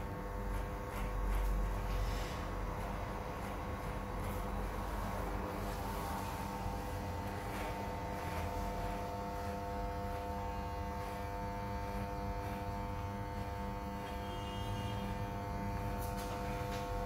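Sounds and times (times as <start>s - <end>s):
electric hair clipper buzzing: 0.0s - 17.0s.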